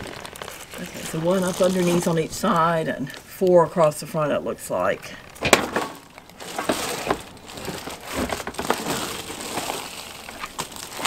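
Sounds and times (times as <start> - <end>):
plastic crinkling and rustling: 0.0 - 3.4, 5.0 - 11.0.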